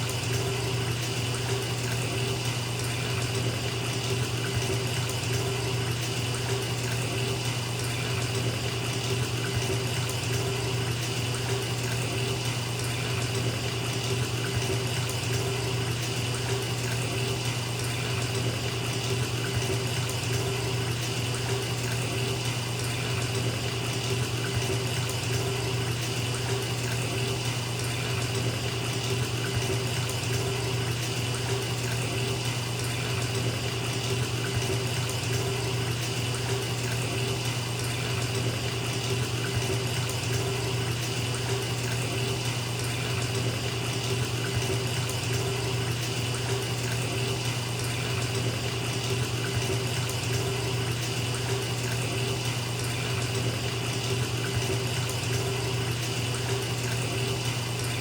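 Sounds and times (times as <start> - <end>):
tap water pouring into bathtub: 0.0 - 58.0.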